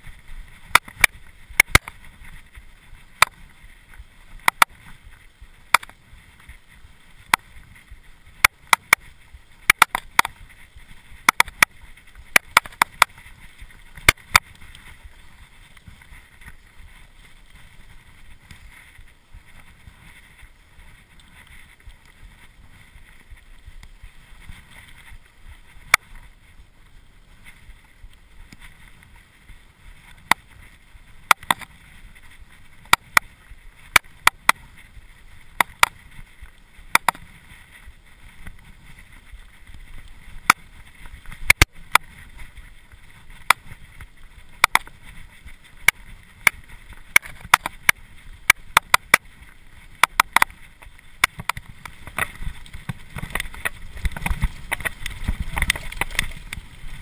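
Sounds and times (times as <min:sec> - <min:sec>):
bike tyres rolling on gravel: 0:00.0 - 0:57.0
bike clicks and rattles: 0:00.4 - 0:26.6, 0:30.0 - 0:57.0.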